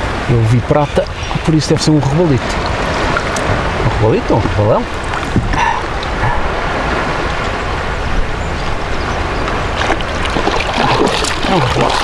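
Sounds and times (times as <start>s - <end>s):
water lapping against kayak: 0.0s - 12.0s
water splashes: 0.0s - 12.0s
wind rumble on microphone: 0.0s - 12.0s.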